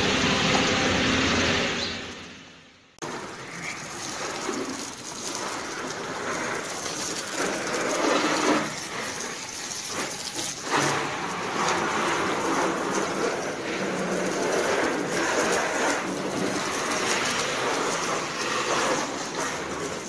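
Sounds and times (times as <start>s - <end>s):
hose spraying water on car: 3.0s - 20.0s.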